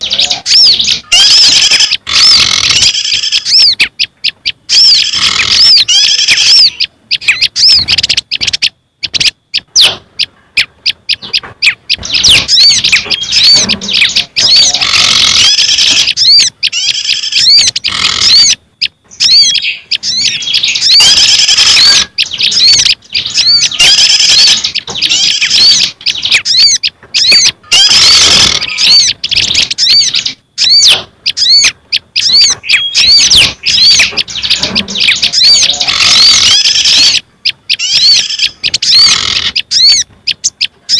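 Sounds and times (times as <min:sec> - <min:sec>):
small songbirds chirping: 0:00.0 - 0:40.9.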